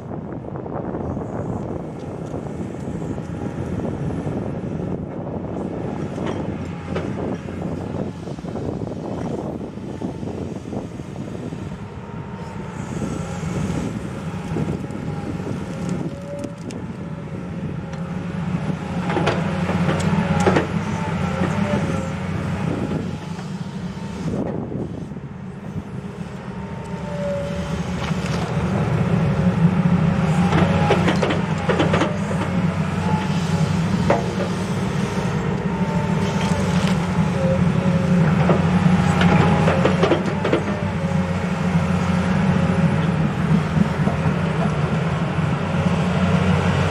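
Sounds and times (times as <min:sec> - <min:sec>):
excavator diesel engine: 0:00.0 - 0:46.9
wavering hydraulic whine: 0:00.2 - 0:46.9.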